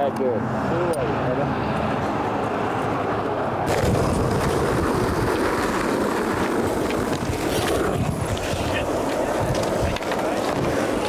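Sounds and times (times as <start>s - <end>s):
skateboard wheels rolling on pavement: 1.6s - 11.0s.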